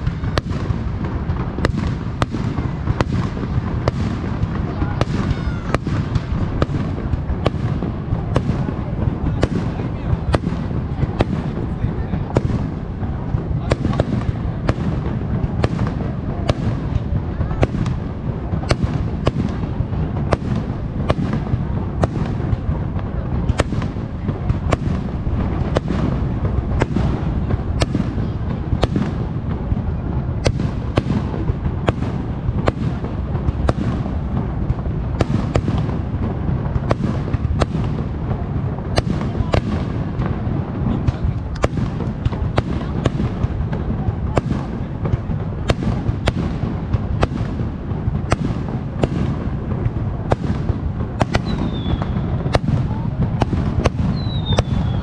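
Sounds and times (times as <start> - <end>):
firework bangs: 0.0 - 55.0
low rumble of booms: 0.0 - 55.0.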